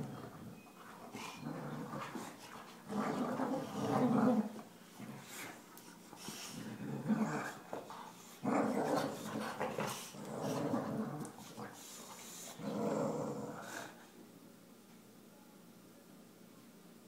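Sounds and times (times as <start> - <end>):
dogs growling in play: 0.0 - 14.0.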